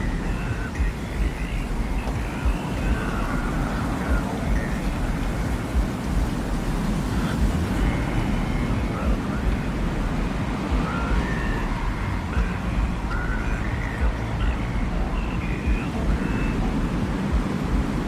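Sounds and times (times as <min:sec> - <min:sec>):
low rumbling wind: 0:00.0 - 0:18.0.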